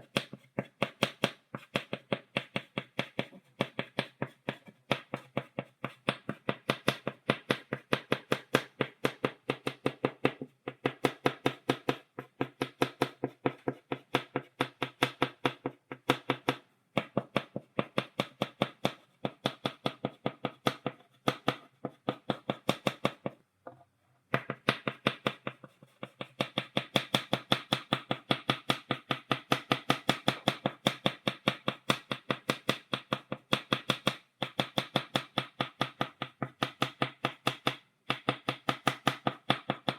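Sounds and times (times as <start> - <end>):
chalk tapping on blackboard: 0.0 - 23.4, 24.3 - 39.9.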